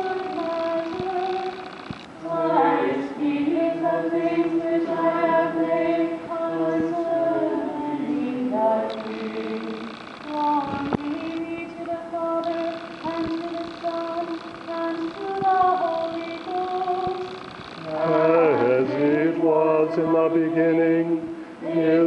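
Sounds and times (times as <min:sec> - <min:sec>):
voices singing a cappella chant: 0:00.0 - 0:22.0.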